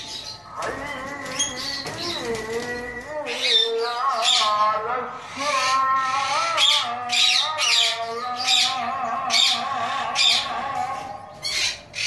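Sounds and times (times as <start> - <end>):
lorikeets squawking: 0.0 - 12.0.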